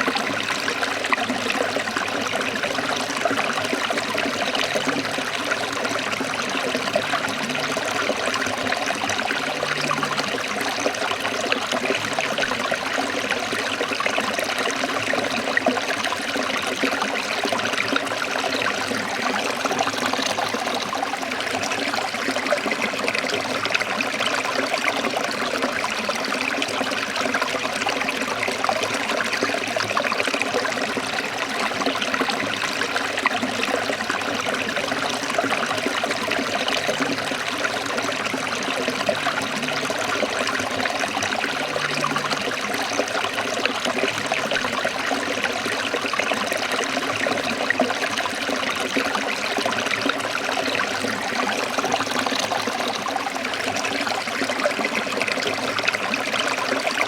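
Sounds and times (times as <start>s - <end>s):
water trickling over rocks: 0.0s - 57.0s.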